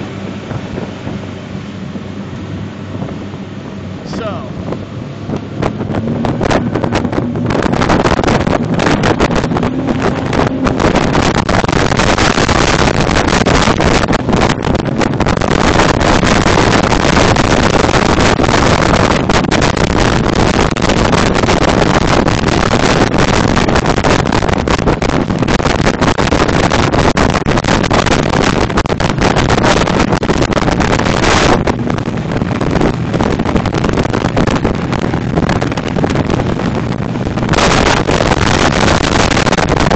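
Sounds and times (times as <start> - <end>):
boat engine: 0.0 - 39.9
rushing water: 0.0 - 39.9
wind buffeting microphone: 0.0 - 39.9.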